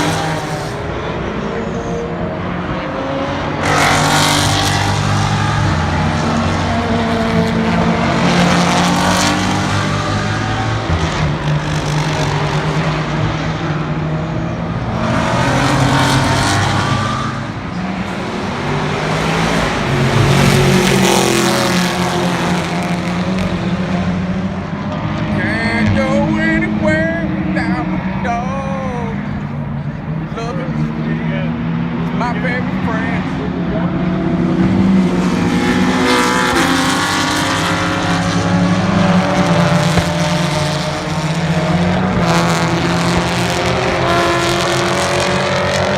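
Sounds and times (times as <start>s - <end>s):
race cars passing at high revs: 0.0s - 45.9s.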